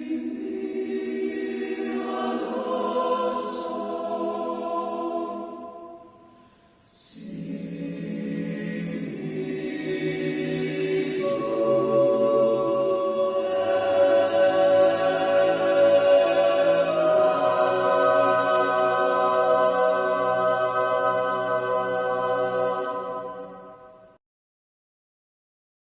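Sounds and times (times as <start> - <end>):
choir singing held chords: 0.0 - 24.2.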